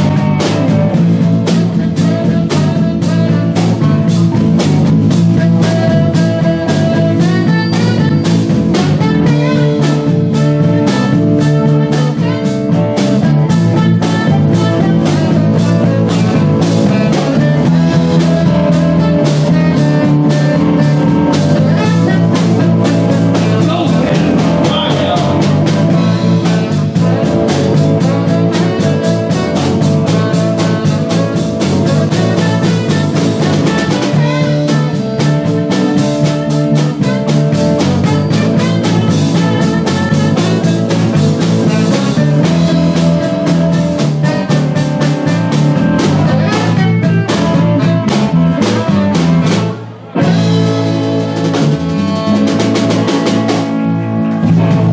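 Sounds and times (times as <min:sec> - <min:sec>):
rock and roll band playing: 0:00.0 - 0:54.9.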